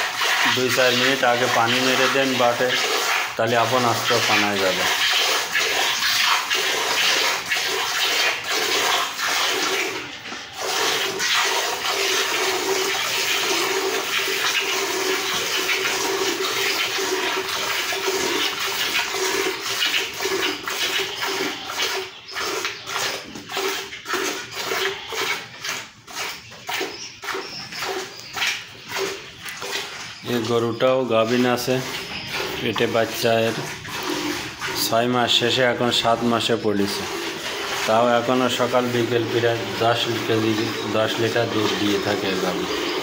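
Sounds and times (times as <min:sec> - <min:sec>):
milk squirting into a pail: 0:00.0 - 0:43.0.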